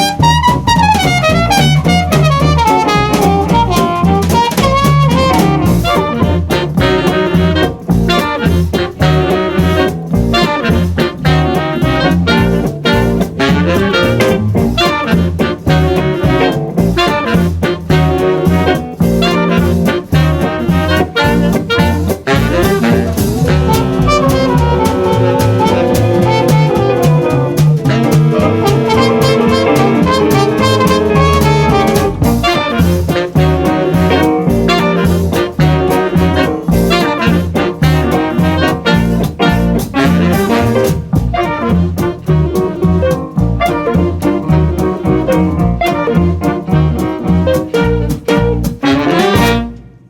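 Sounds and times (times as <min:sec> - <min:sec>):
swing jazz band playing: 0:00.0 - 0:50.0.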